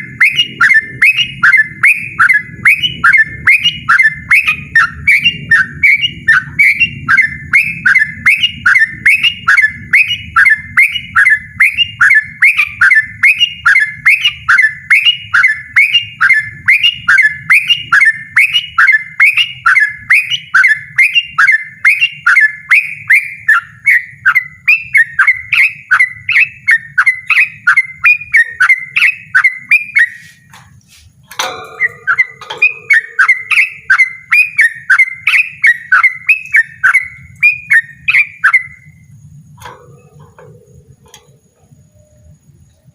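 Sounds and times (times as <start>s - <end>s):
rough bird call: 0.0s - 42.5s
bird singing downslurred notes: 0.0s - 42.9s.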